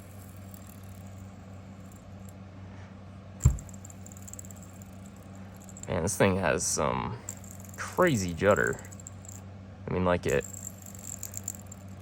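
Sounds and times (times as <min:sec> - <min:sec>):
fidget spinner spinning rattle: 0:00.0 - 0:02.5, 0:03.4 - 0:09.5, 0:10.2 - 0:12.0.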